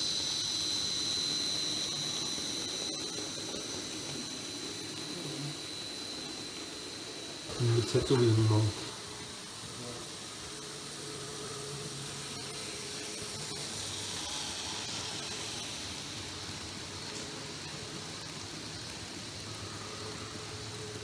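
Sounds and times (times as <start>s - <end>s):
model train whirring: 0.0s - 21.0s.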